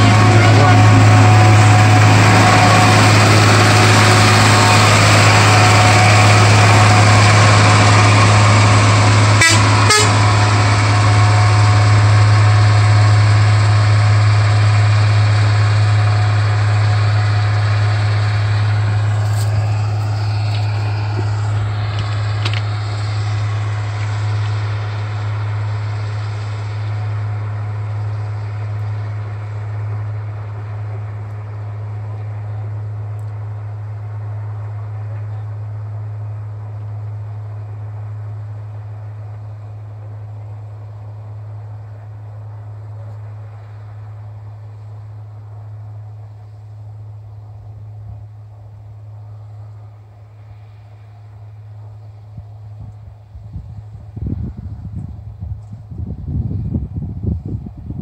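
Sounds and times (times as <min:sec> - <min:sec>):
truck engine and wheels on track: 0:00.0 - 0:58.0.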